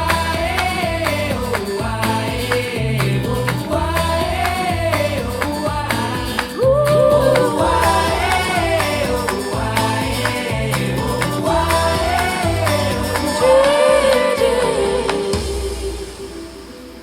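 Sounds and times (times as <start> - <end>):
pop song through speakers: 0.0 - 17.0.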